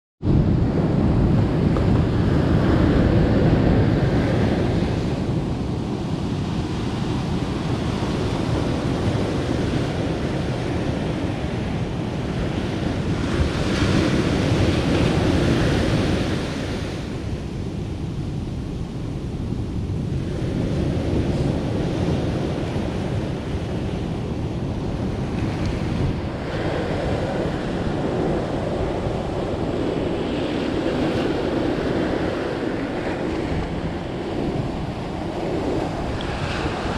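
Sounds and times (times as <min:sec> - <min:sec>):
wind buffeting microphone: 0:00.2 - 0:36.9
ocean waves breaking: 0:00.3 - 0:36.9.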